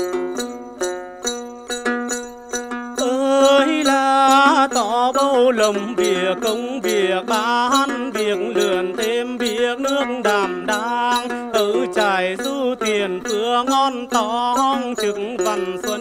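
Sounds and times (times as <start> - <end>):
plucked lute: 0.0 - 16.0
woman singing: 3.0 - 16.0.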